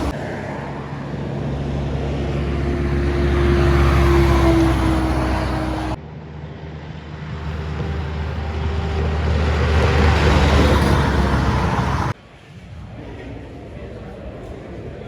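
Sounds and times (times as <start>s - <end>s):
truck diesel engine droning: 0.0s - 12.2s
truck engine approaching: 0.0s - 12.2s.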